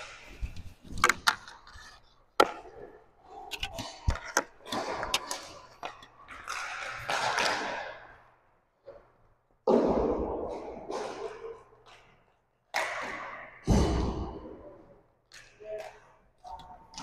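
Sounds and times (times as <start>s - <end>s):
hockey sticks clacking on puck: 0.0s - 8.2s, 9.7s - 13.5s, 15.3s - 17.0s.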